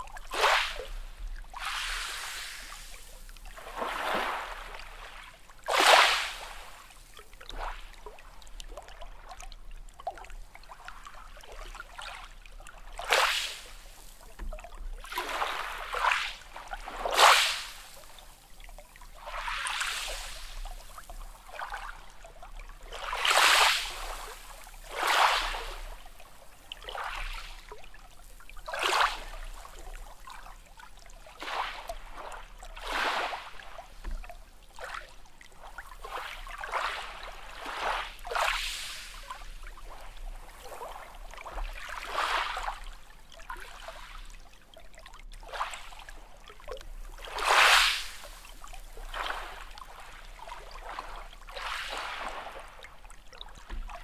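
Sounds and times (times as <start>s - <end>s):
small sea waves splashing: 0.0s - 54.0s.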